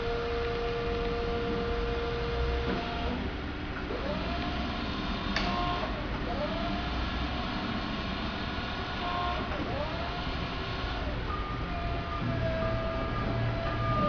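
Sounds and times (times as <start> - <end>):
forklift motor whining: 0.0 - 14.0.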